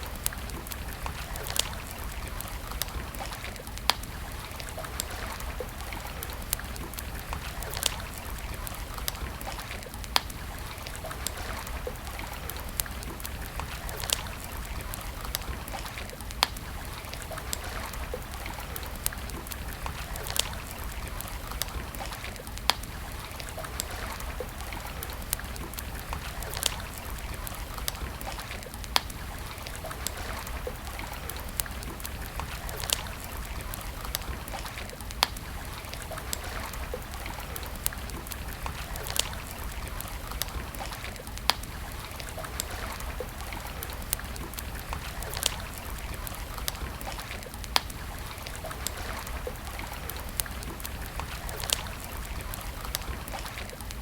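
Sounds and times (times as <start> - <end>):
wood campfire crackling and popping: 0.0 - 54.0.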